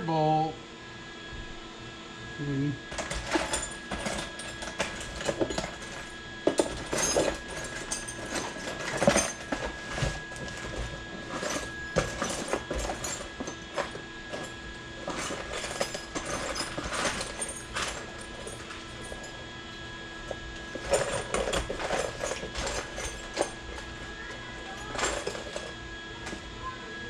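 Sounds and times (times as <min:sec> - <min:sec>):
metal tools clinking: 0:02.9 - 0:19.4, 0:20.2 - 0:26.5.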